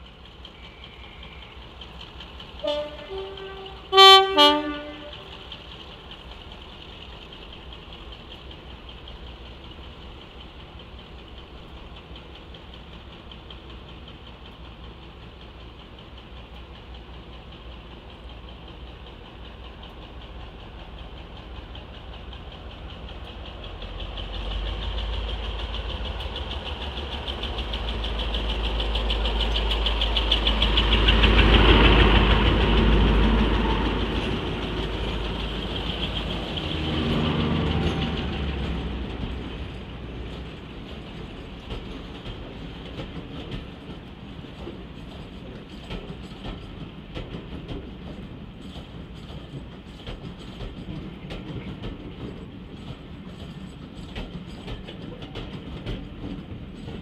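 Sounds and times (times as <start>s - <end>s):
diesel locomotive engines rumbling: 0.0s - 57.0s
train coaches rolling past: 0.0s - 57.0s.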